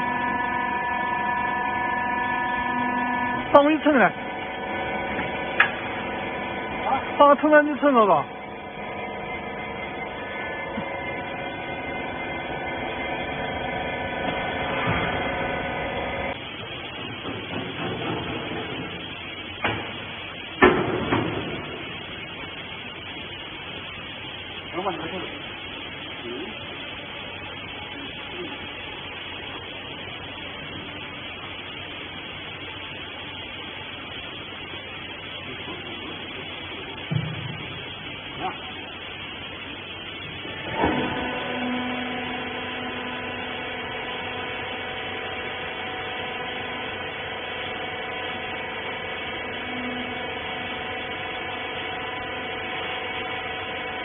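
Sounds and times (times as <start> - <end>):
hydraulic baler humming: 0.0 - 54.0.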